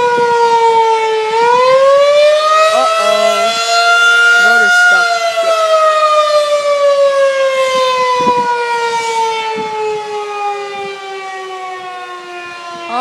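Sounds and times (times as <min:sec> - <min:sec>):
siren winding down: 0:00.0 - 0:13.0.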